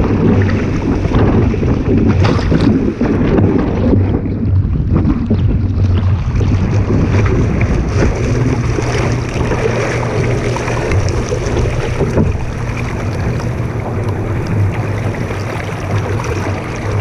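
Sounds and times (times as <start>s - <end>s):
water rushing against boat hull: 0.0s - 17.0s
wind buffeting microphone: 0.0s - 17.0s.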